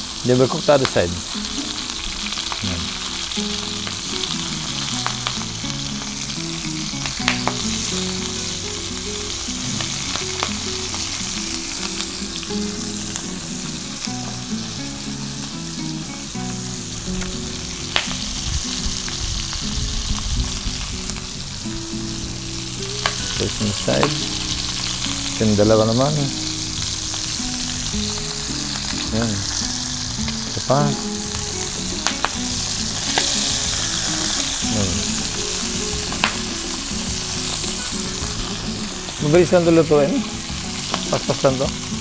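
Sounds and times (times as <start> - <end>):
shrimp sizzling in oil: 0.0 - 42.0.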